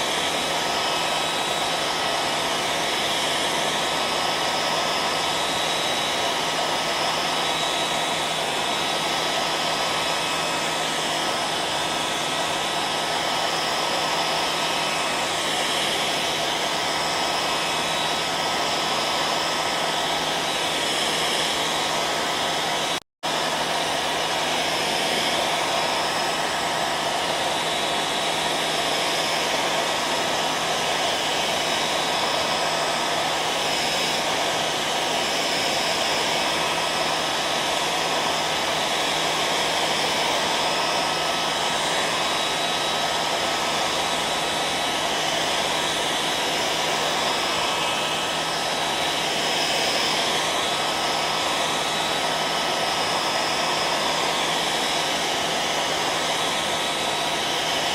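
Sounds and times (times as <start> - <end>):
hair dryer blowing air: 0.0 - 57.9.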